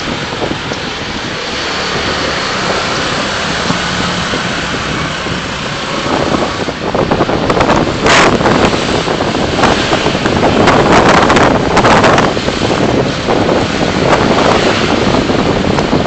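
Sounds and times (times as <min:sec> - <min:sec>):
car road and engine noise: 0:00.0 - 0:16.0
wind buffeting microphone: 0:00.0 - 0:16.0.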